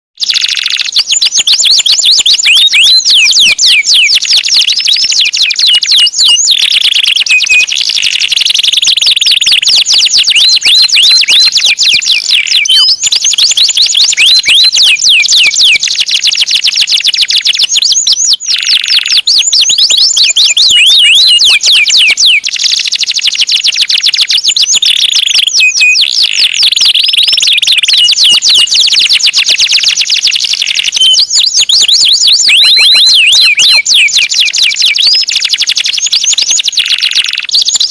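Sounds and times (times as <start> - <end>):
canary singing: 0.2 - 37.9.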